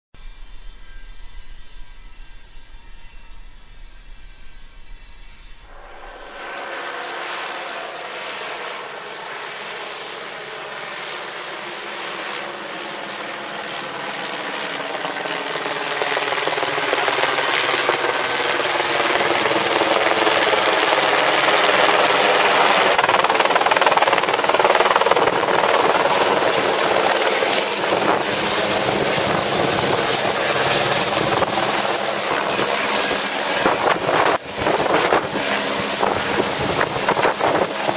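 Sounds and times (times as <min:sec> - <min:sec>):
helicopter flying overhead: 0:02.7 - 0:37.9.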